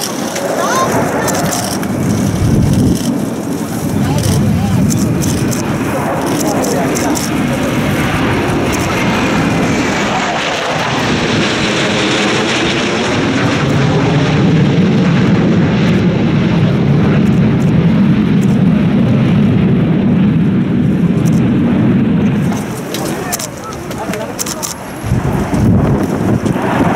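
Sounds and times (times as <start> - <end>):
jet engines rumbling: 0.0 - 26.9.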